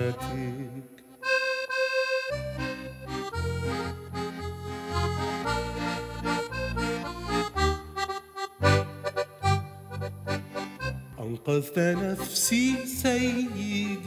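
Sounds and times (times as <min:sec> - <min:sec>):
accordion melody: 0:00.0 - 0:14.0.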